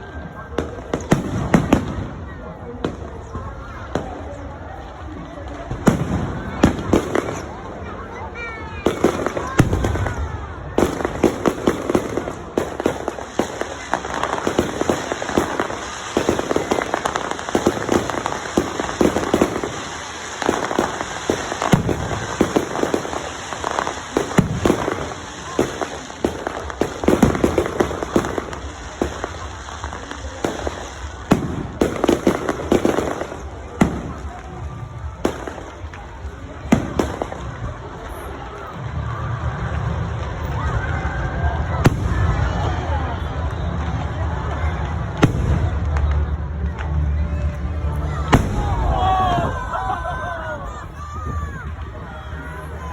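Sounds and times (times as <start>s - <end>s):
fireworks bangs and crackling pops: 0.0s - 52.9s.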